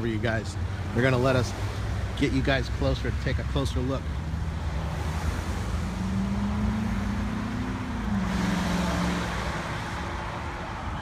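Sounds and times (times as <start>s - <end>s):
engine hum: 0.0s - 11.0s
road noise hiss: 0.0s - 11.0s
vehicle rumble: 0.0s - 11.0s.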